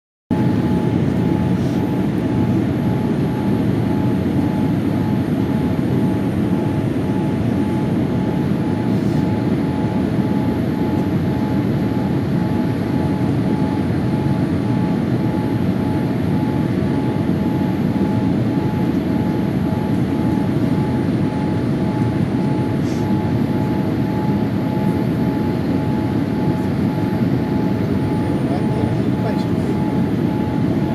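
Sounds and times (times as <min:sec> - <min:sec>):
airliner engines droning: 0:00.3 - 0:30.9
faint steady whine: 0:00.3 - 0:30.9.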